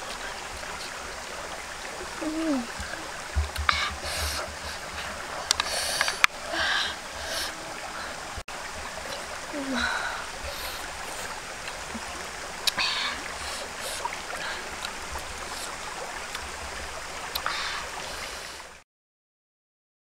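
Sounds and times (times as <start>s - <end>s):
stream running: 0.0s - 18.8s.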